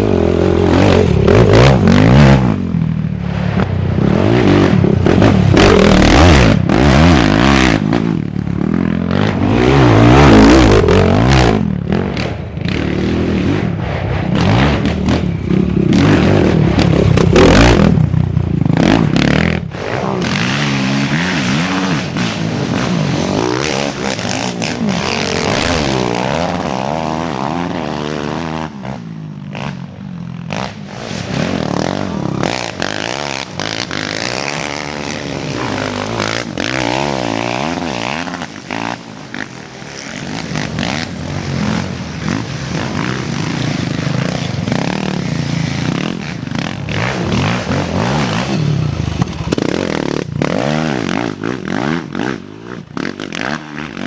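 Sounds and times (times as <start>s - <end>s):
quad engines revving past: 0.0s - 54.0s.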